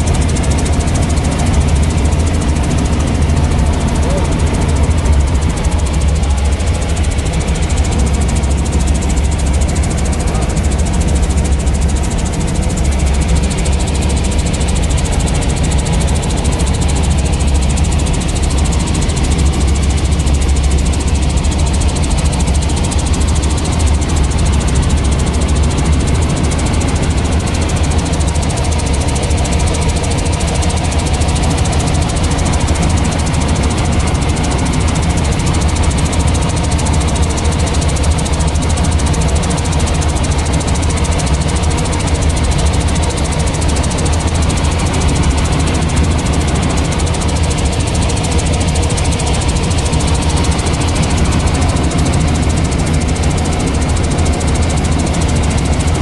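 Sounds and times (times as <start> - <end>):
helicopter engine and rotors drone: 0.0 - 56.0.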